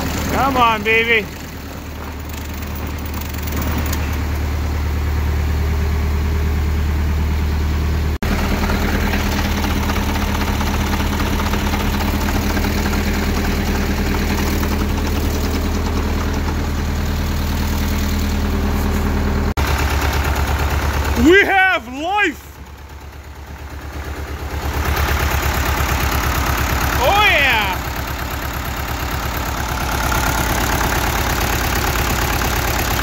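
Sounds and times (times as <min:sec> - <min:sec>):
diesel tractor engine idling: 0:00.0 - 0:33.0.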